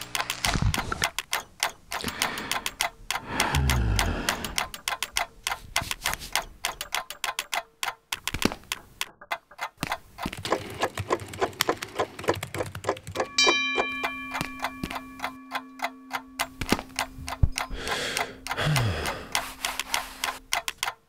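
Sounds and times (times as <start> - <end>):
rapid even ticking: 0.0 - 21.0.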